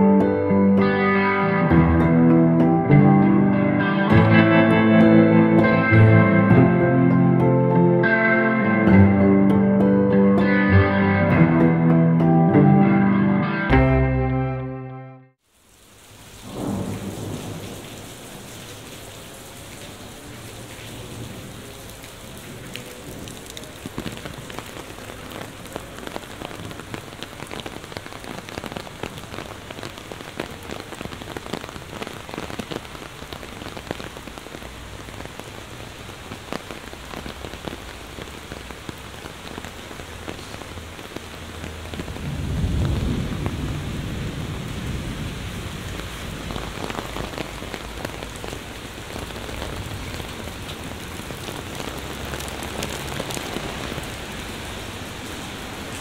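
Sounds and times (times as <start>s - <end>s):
heavy rain: 0.0s - 9.3s, 15.4s - 56.0s.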